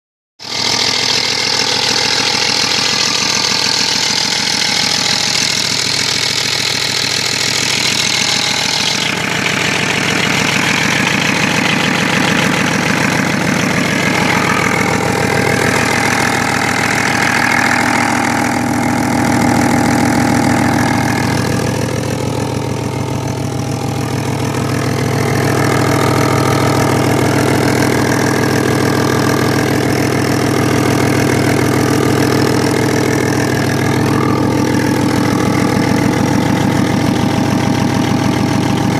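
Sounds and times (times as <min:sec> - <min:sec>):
car engine running: 0:00.4 - 0:38.9
chattering engine noise: 0:00.4 - 0:38.9.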